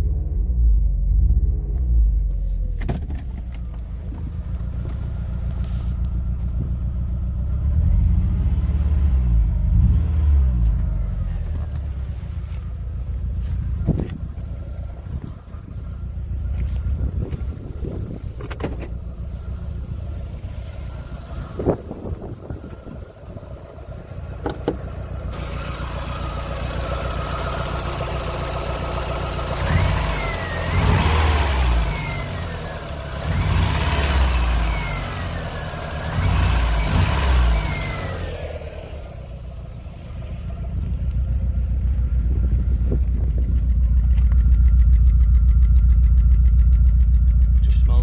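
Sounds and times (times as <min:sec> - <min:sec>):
car engine misfiring and revving: 0:00.0 - 0:48.0.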